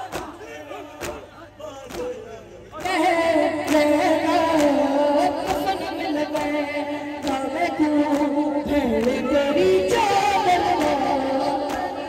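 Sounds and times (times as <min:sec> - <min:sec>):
voices chanting a lament: 0:00.0 - 0:12.0.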